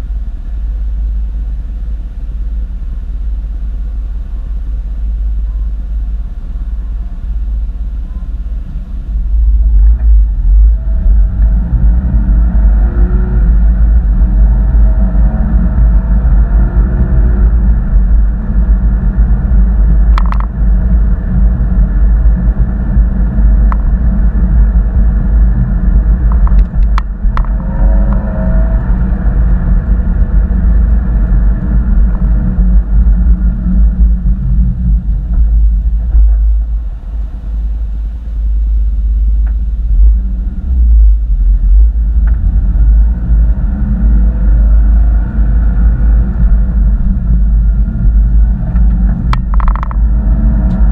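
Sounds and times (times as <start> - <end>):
car engine low rumble: 0.0 - 50.9.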